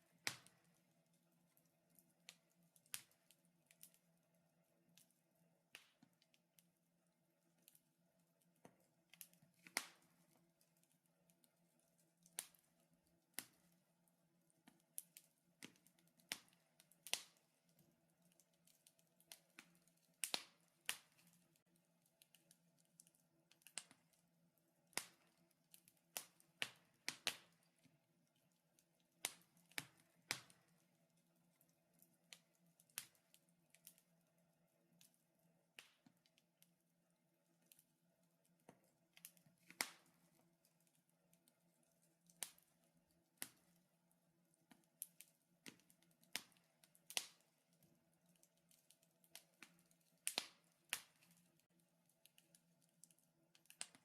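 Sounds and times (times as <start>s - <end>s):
wood fire crackling and popping: 0.0s - 4.1s, 5.7s - 6.7s, 8.5s - 13.9s, 14.5s - 34.2s, 34.9s - 36.7s, 38.4s - 43.8s, 44.6s - 54.0s.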